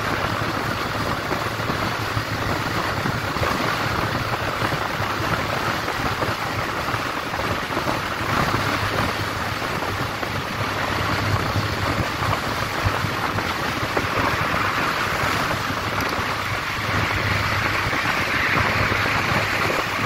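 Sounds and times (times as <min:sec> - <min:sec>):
motorcycle engine hum: 0:00.0 - 0:20.0
wind rush on microphone: 0:00.0 - 0:20.0.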